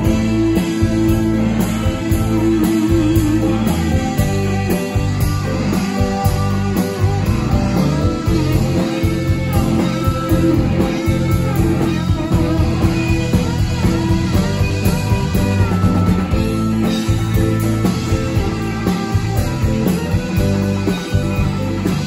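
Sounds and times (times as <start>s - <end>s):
bass guitar: 0.0s - 22.0s
drums: 0.0s - 22.0s
electric guitar bending notes: 0.0s - 22.0s.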